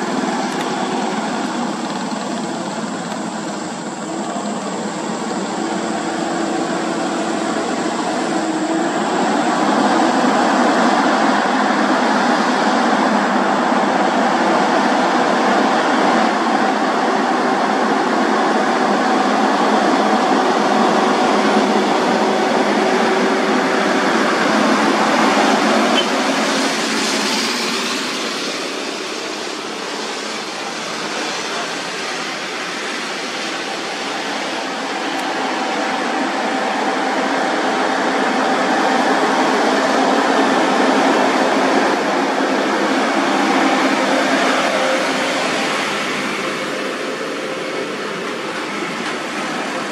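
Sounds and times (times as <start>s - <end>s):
heavy trucks passing: 0.0s - 49.9s.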